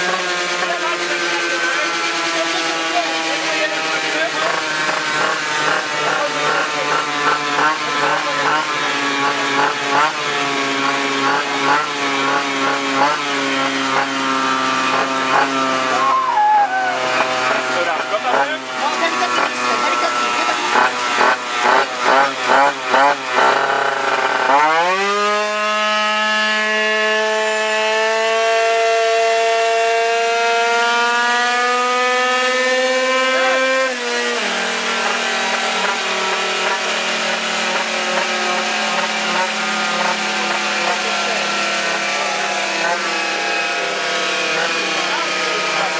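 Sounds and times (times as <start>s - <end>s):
two-stroke scooter engine revving: 0.0s - 45.9s.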